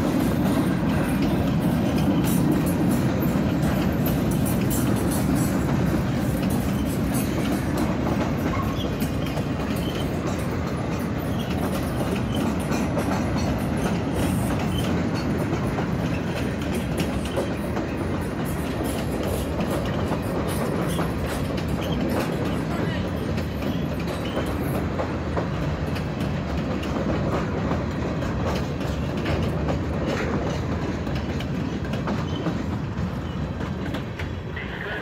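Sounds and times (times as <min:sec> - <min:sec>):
freight train wheels rumbling on rails: 0:00.0 - 0:35.0
wheels clacking over rail joints: 0:00.0 - 0:35.0.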